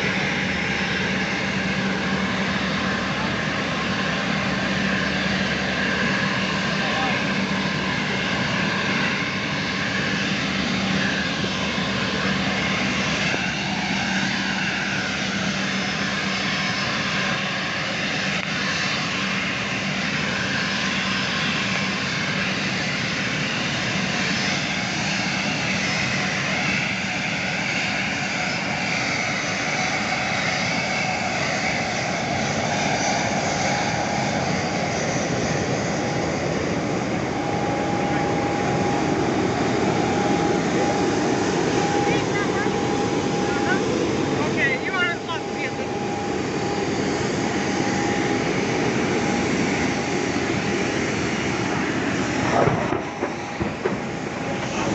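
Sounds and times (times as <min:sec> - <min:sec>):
aircraft engine drone: 0:00.0 - 0:54.9.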